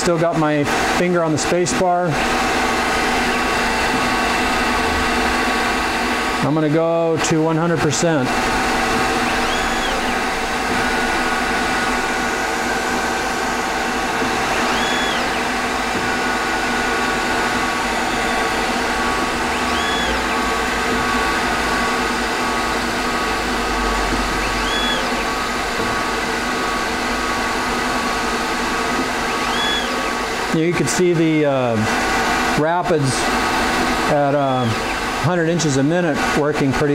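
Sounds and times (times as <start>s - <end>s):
lathe machine hum: 0.0s - 36.9s
stepper motors whining: 0.0s - 36.9s.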